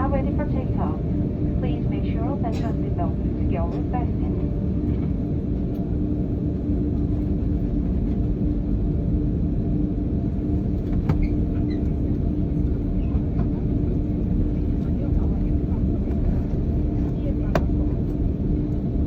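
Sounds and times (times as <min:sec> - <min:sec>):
jet airliner cabin rumble: 0:00.0 - 0:19.0.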